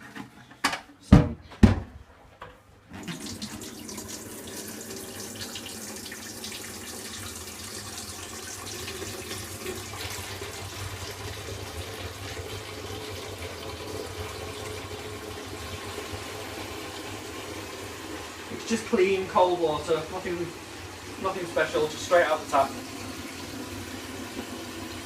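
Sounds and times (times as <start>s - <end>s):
tap water running into tank: 3.0s - 25.0s.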